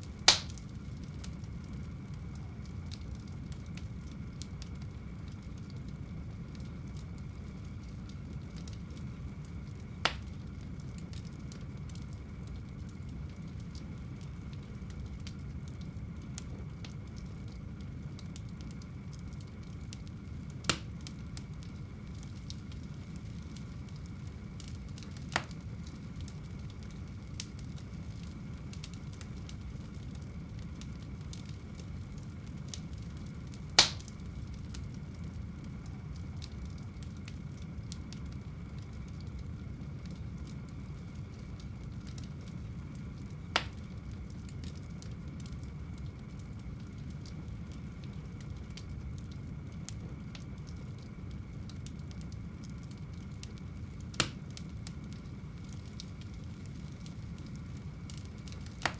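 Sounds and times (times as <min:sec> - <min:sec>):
burning wood popping: 0:00.0 - 0:58.9
faint fire crackling: 0:00.0 - 0:58.9
fire flames rumbling: 0:00.0 - 0:58.9.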